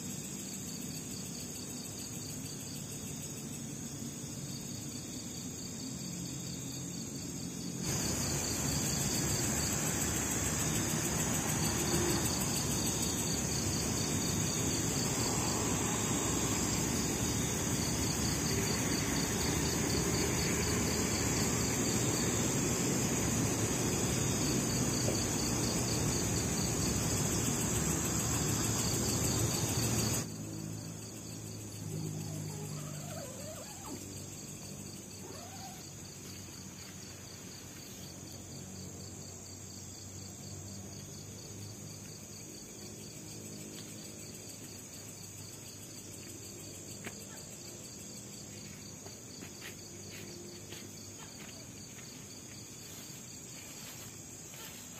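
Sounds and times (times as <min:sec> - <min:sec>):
crickets chirping: 0:00.0 - 0:54.9
insect rapid pulsing trill: 0:00.0 - 0:54.9.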